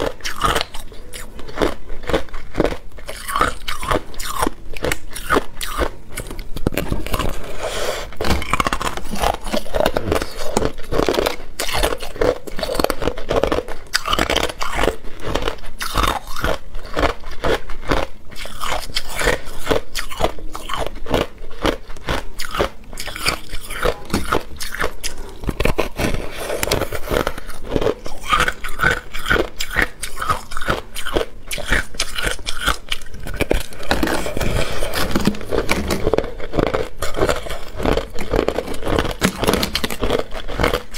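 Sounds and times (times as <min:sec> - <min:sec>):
person crunching ice: 0:00.0 - 0:40.9.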